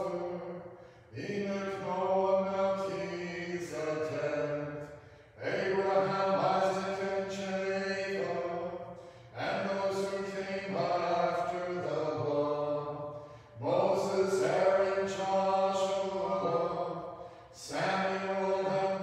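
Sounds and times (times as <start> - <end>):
unaccompanied choral chant: 0.0 - 19.0.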